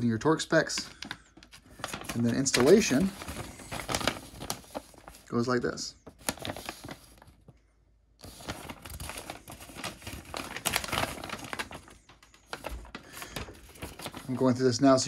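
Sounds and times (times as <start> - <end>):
paper rustling and crinkling: 0.6 - 7.6, 8.2 - 15.0.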